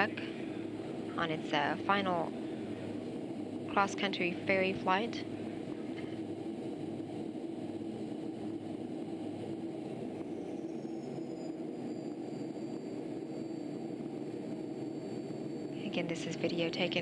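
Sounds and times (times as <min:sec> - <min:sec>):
jet engine and airflow rush: 0:00.0 - 0:17.0.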